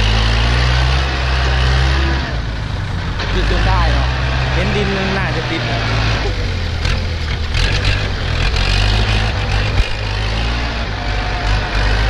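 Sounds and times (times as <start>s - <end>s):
diesel engines running under load: 0.0s - 12.0s.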